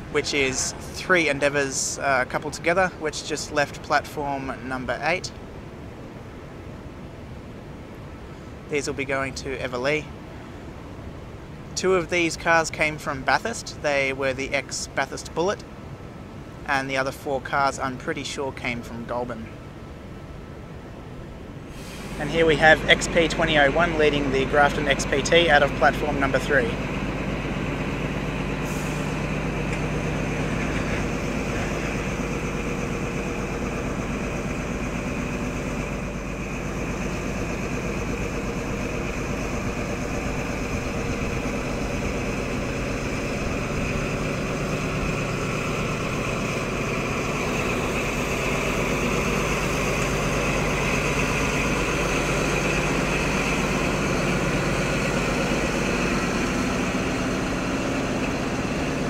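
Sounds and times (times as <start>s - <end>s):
diesel locomotive engine droning: 0.0s - 59.0s
engine whine: 0.0s - 59.0s.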